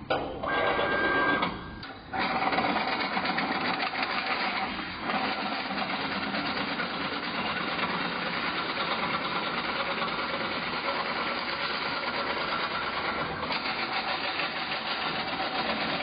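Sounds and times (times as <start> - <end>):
fast mechanical chatter: 2.1 - 16.0.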